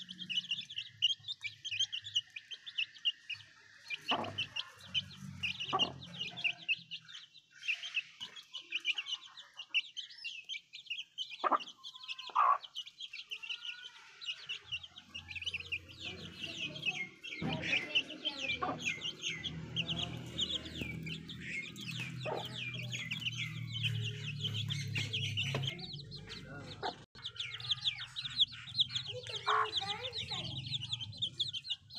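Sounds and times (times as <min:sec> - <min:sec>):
hen clucking: 0:00.0 - 0:06.9, 0:11.2 - 0:12.9, 0:13.5 - 0:31.9
chicks peeping: 0:00.0 - 0:31.9.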